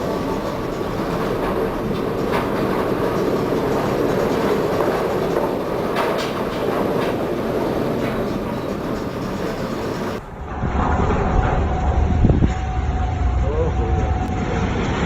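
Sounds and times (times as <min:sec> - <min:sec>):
ship rumbling and rattling: 0:00.0 - 0:15.0.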